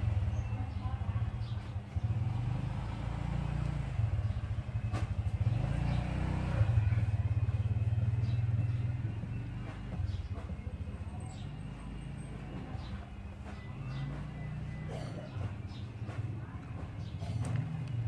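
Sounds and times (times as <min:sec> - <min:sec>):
engine running with rapid pulsing: 0:00.0 - 0:18.0.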